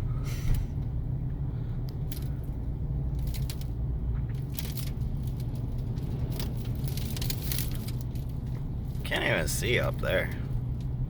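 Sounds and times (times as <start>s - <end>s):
road rumble inside moving car: 0.0s - 11.0s.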